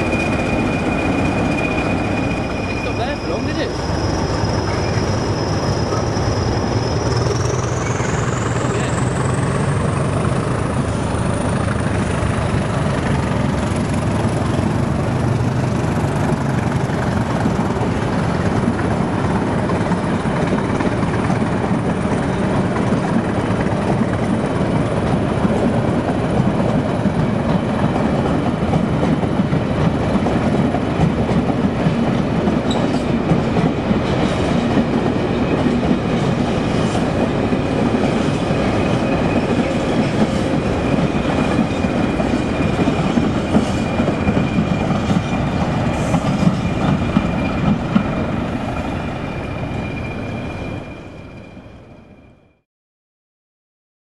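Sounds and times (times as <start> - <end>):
train wheels clickety-clack: 0.0 - 48.9.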